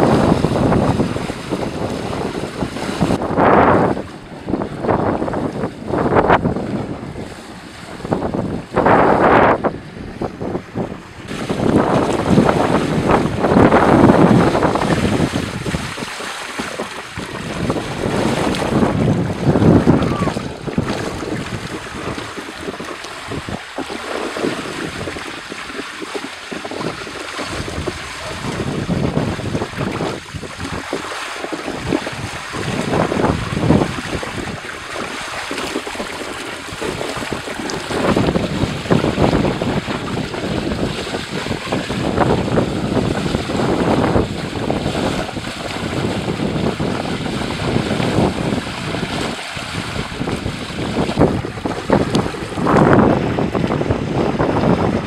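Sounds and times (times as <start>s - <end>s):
water rushing in whirlpool: 0.0s - 55.0s
wind buffeting microphone: 0.0s - 55.0s.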